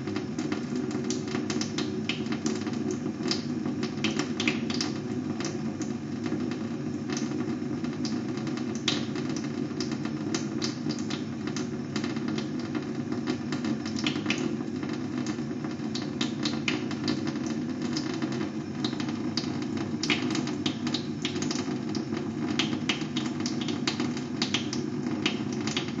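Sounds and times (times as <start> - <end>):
water tap running: 0.0 - 26.0.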